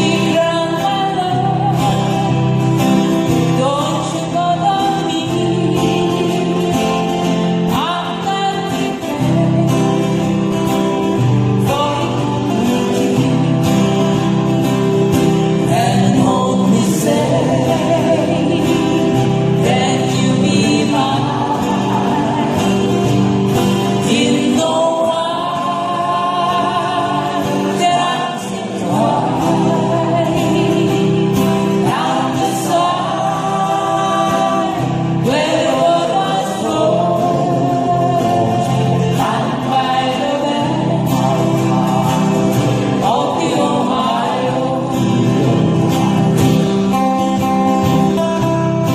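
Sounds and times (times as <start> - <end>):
person singing: 0.0 - 13.4, 15.6 - 47.6
strummed acoustic guitars: 0.0 - 48.9.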